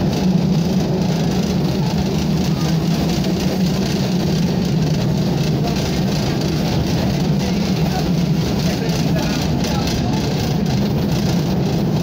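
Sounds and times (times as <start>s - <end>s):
diesel engine drone: 0.0s - 12.0s
train wheels rushing on rails: 0.0s - 12.0s.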